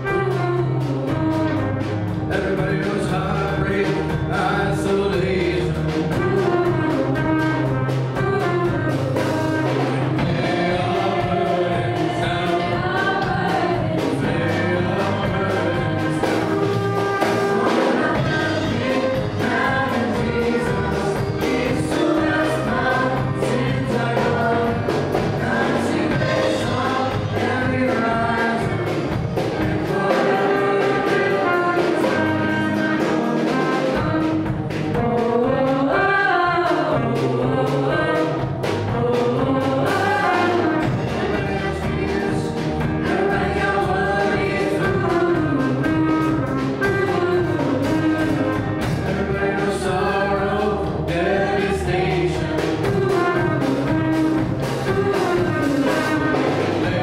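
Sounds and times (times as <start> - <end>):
bass guitar: 0.0 - 57.0
drums: 0.0 - 57.0
group of voices singing: 0.0 - 57.0
keyboard: 0.0 - 57.0.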